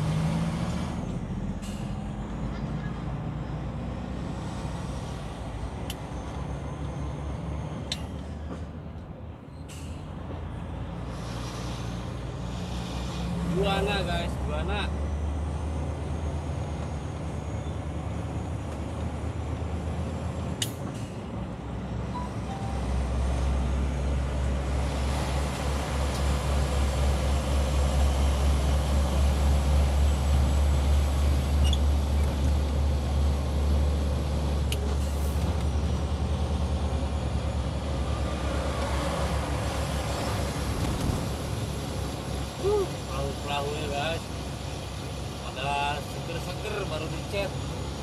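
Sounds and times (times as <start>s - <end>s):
truck engine drone: 0.0s - 48.0s.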